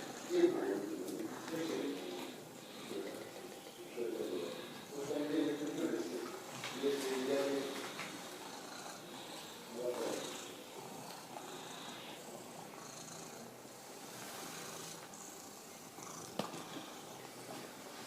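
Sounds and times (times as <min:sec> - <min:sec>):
cat purring: 0:00.0 - 0:17.6.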